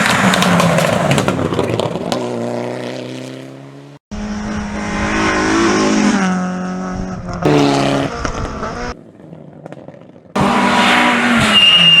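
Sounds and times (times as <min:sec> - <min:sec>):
rally car engines at high revs: 0:00.0 - 0:12.0.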